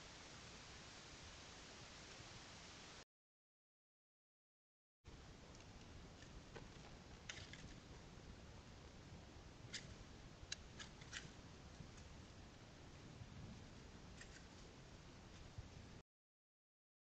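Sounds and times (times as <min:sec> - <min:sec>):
faint steady hiss: 0:00.0 - 0:03.0, 0:05.1 - 0:16.0.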